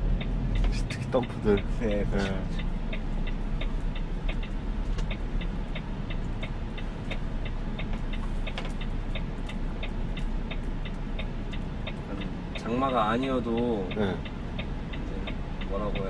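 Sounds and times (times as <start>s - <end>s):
diesel engine running: 0.0s - 16.0s
indicator ticking: 0.0s - 16.0s.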